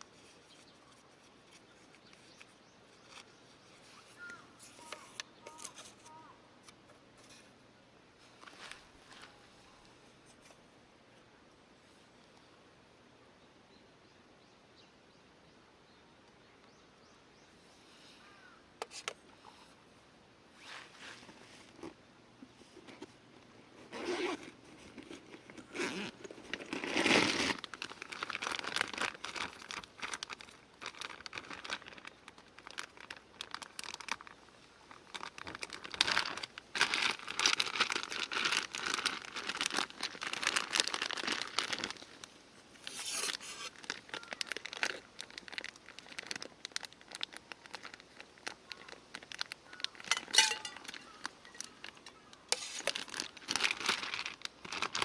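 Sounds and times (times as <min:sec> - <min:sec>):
material crinkling and rustling: 0:00.0 - 0:07.5, 0:08.2 - 0:10.6, 0:20.6 - 0:55.0.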